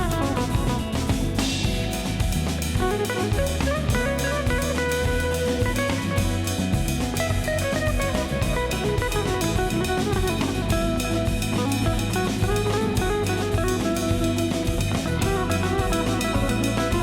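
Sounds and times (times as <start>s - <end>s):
band music with drums and guitar: 0.0s - 17.0s.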